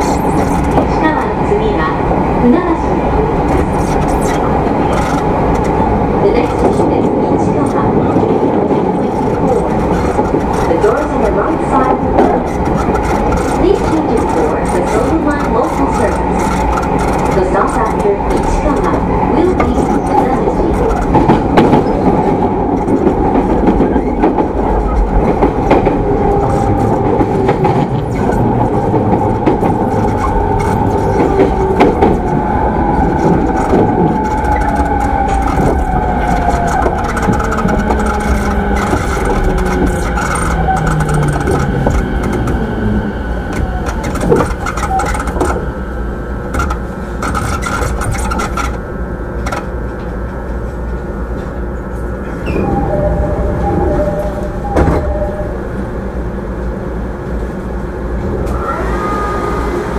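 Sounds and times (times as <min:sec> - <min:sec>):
wheel-on-rail rumble: 0:00.0 - 0:59.9.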